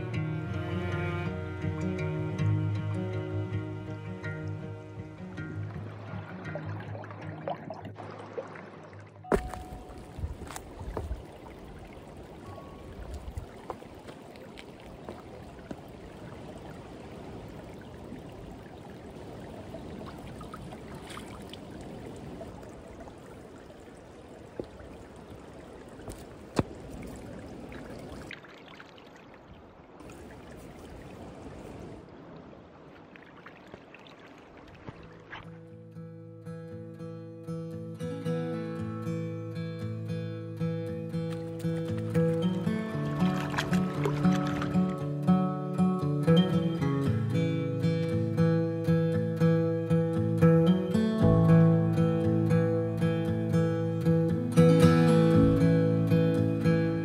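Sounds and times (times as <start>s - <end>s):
creek water running over rocks: 0.0s - 36.0s, 40.4s - 57.0s.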